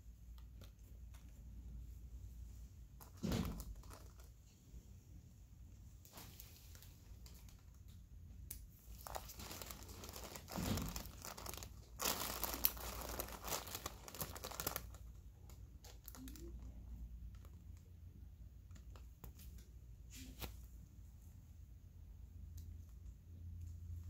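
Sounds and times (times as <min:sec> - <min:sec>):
crinkling and rustling handling noise: 0:00.0 - 0:21.4.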